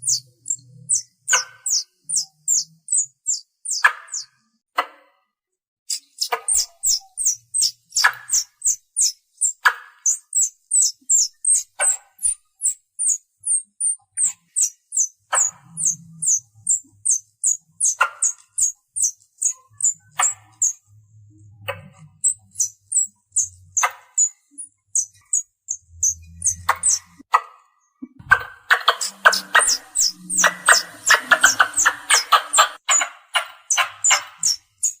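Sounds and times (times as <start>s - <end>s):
squirrel chirping: 0.0s - 4.4s, 5.9s - 27.3s, 28.2s - 35.0s.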